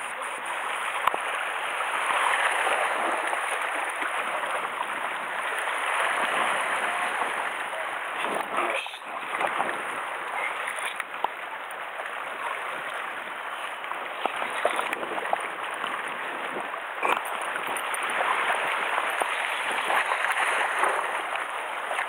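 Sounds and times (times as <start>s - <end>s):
sea water washing over rocks: 0.0s - 22.0s.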